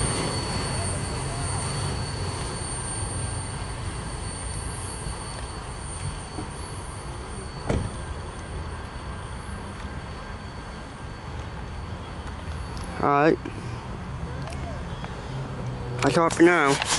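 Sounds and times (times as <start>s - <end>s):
freight train rumbling: 0.0s - 16.9s.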